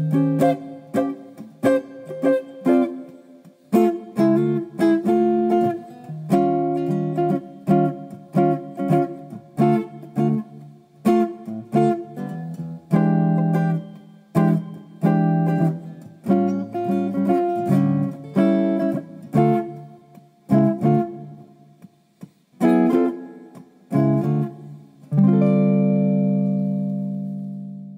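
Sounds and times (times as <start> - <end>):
guitar plucked and strummed: 0.0 - 27.9.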